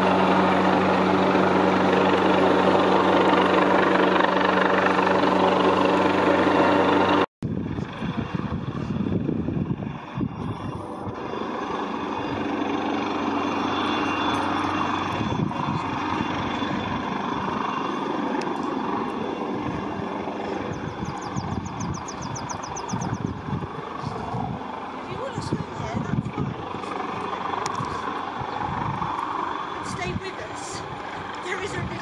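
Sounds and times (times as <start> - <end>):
helicopter drone overhead: 0.0 - 32.0.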